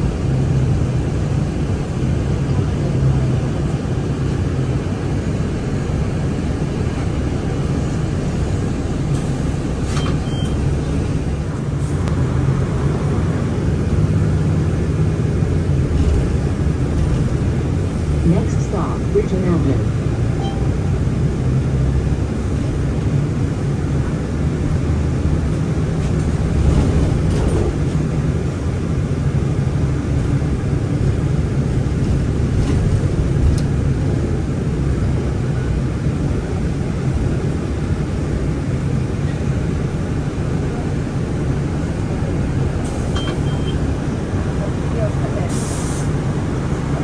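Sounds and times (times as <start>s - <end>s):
bus engine and tyres rumbling: 0.0s - 47.0s.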